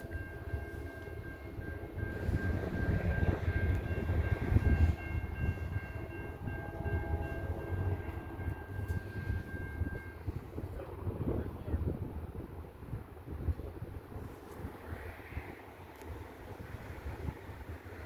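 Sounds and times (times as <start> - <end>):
train rumbling by: 0.0 - 18.0.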